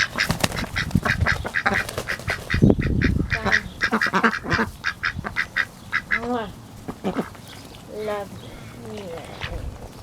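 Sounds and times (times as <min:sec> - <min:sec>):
ducks quacking: 0:00.0 - 0:09.7.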